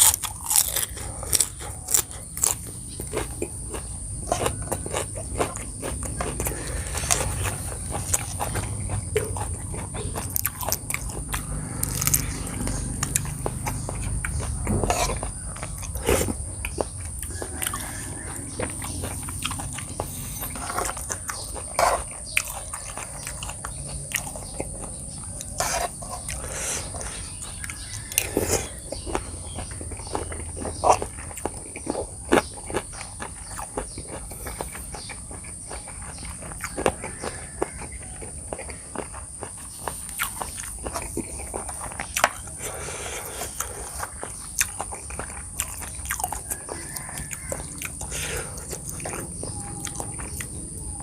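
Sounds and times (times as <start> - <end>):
person chewing and crunching salad: 0.0 - 51.0.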